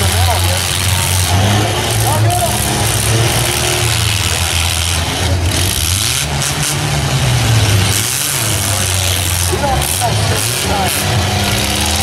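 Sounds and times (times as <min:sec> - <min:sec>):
engine revving: 0:00.0 - 0:12.0
truck engines rumbling: 0:00.0 - 0:12.0.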